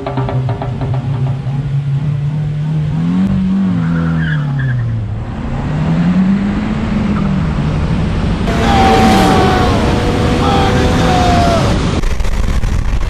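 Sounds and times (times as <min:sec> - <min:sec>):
car engine accelerating: 0:00.1 - 0:12.0.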